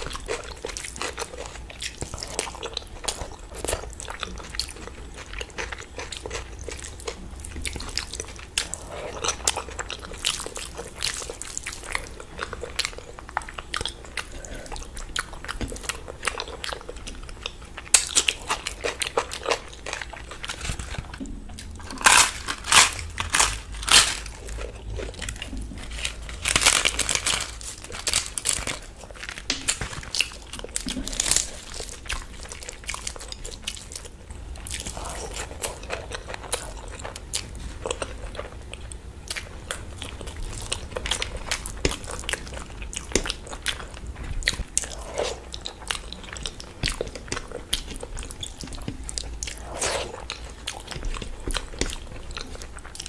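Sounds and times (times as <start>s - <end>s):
crunching and chewing food: 0.0s - 53.0s.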